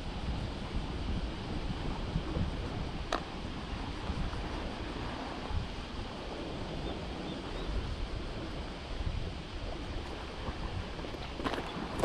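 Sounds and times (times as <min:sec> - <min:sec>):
sea noise: 0:00.0 - 0:12.0
wind buffeting microphone: 0:00.0 - 0:12.0.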